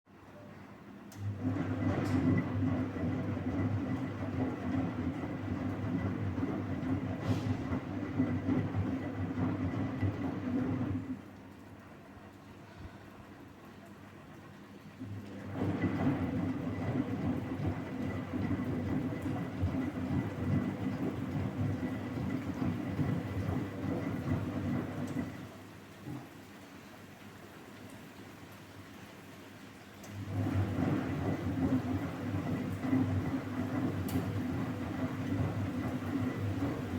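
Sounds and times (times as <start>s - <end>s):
washing machine running: 0.2s - 36.9s.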